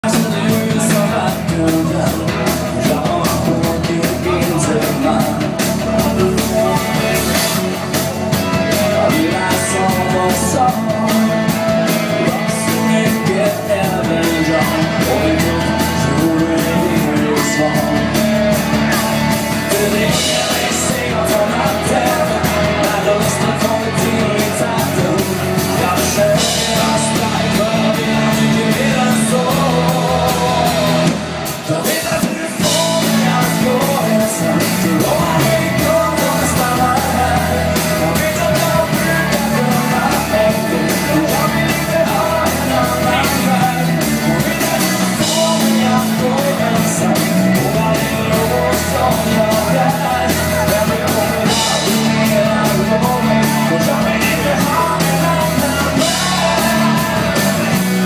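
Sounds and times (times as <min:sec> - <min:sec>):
drum beat: 0:00.0 - 0:58.0
electric guitars: 0:00.0 - 0:58.0
keyboard: 0:00.0 - 0:58.0
person singing: 0:00.0 - 0:58.0.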